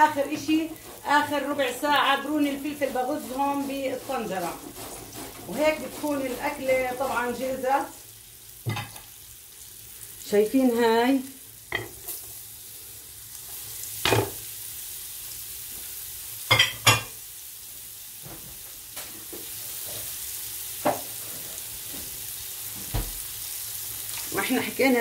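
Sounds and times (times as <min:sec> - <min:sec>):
oil sizzling in a pot: 0:00.0 - 0:25.0.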